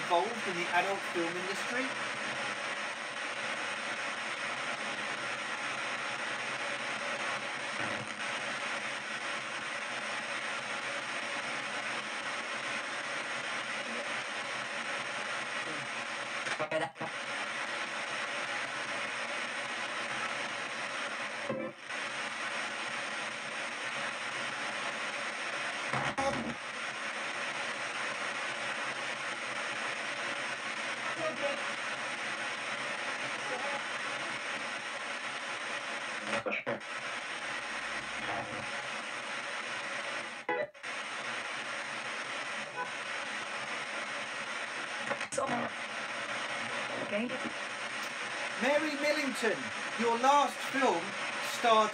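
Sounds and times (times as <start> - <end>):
radio static rush: 0.0 - 51.9
snatches of broadcast sound: 0.0 - 51.9.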